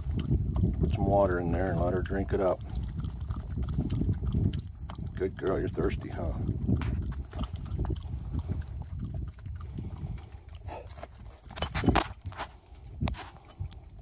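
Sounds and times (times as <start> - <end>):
dog lapping water: 0.0 - 14.0.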